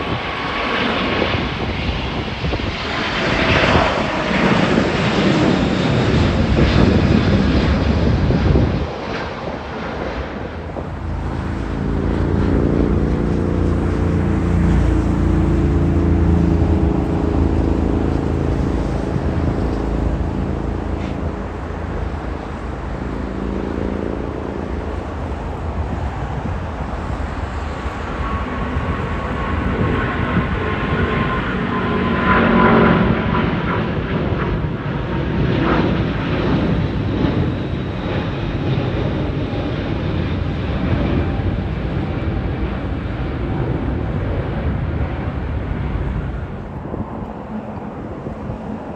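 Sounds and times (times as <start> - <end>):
jet engine whine: 0.0 - 48.9
jet engines rumbling: 0.0 - 48.9.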